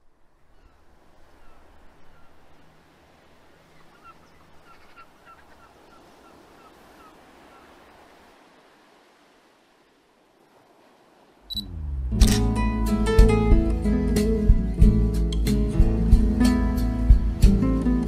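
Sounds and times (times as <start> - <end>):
faint surf on beach: 0.0 - 18.0.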